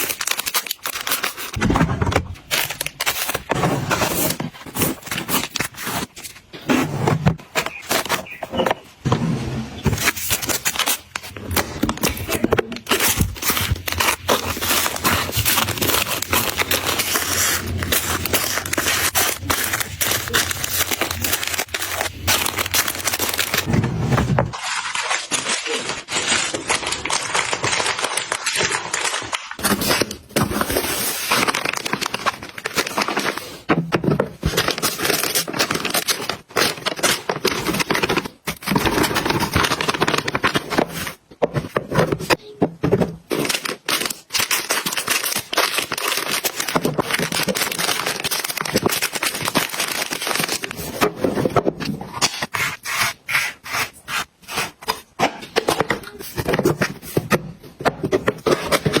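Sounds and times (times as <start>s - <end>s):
packaging crinkling and rustling: 0.0s - 8.9s, 9.8s - 53.2s, 53.8s - 59.0s.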